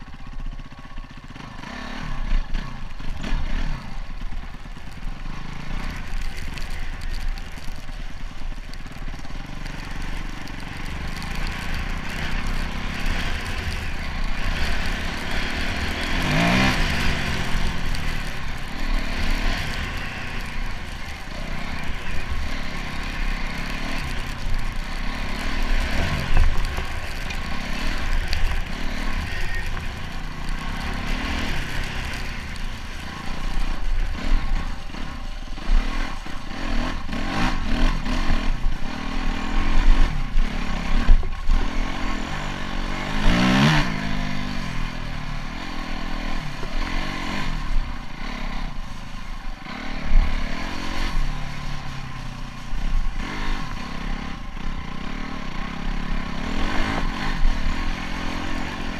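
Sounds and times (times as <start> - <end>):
bike rattling over rough ground: 0.0 - 58.9
dirt bike engine revving: 0.1 - 58.9.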